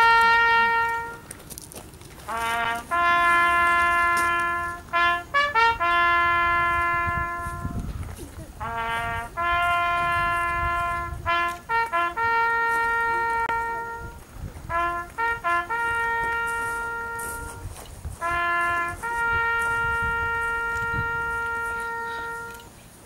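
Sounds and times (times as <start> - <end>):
brass band playing slow piece: 0.0 - 1.4, 2.2 - 22.8.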